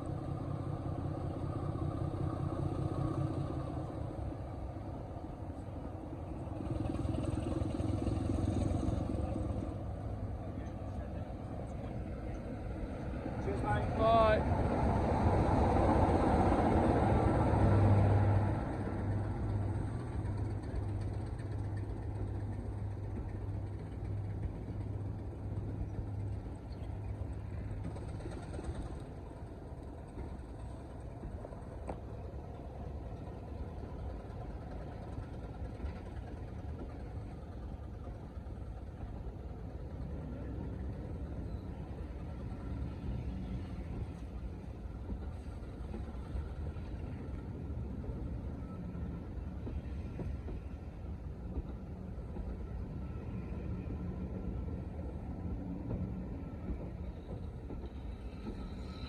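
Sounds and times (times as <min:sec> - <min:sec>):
diesel train engine humming: 0:00.0 - 0:59.0
faint rumble: 0:00.0 - 0:59.0.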